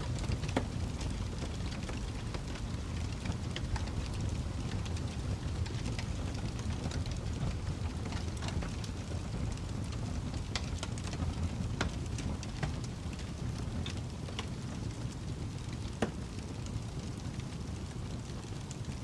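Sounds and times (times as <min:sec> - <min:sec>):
low rumble of flames: 0:00.0 - 0:19.0
wood fire pops and snaps: 0:00.1 - 0:19.0.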